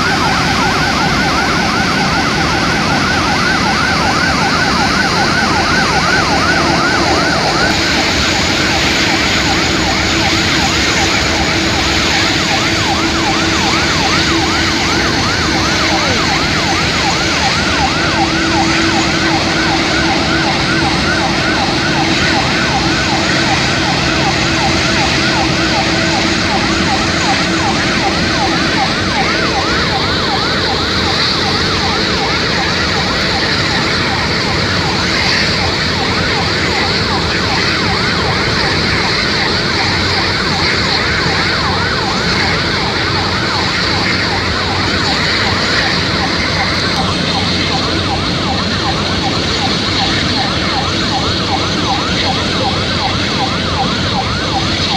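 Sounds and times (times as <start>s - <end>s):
fire truck sirens yelping: 0.0s - 54.9s.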